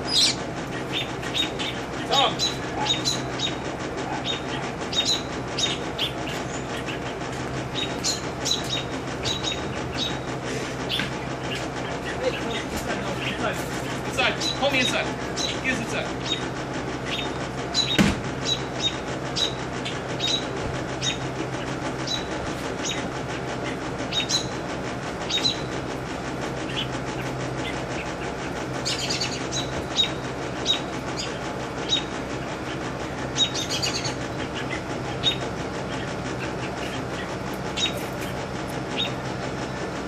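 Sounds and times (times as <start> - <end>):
bird alarm chirps: 0.0 - 13.3, 13.9 - 23.1, 24.1 - 24.6, 25.2 - 25.8, 28.8 - 39.2
steady low hum: 0.0 - 40.0.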